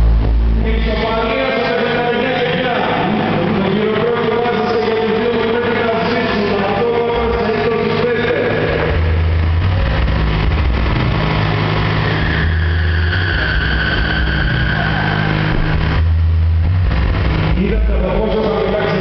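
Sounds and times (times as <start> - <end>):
heavy subwoofer bass notes: 0.0 - 19.0.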